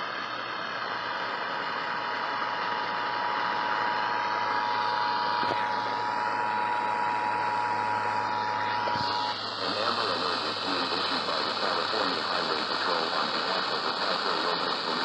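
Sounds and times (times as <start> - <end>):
hiss and low hum: 0.0 - 15.0.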